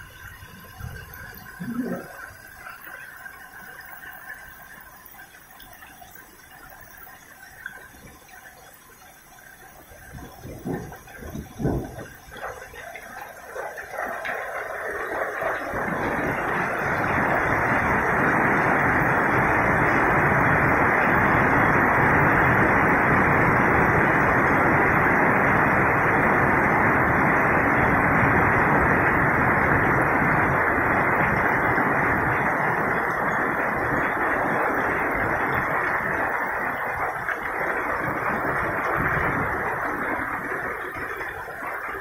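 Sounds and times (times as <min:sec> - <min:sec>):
heavy rain: 0:00.0 - 0:42.0.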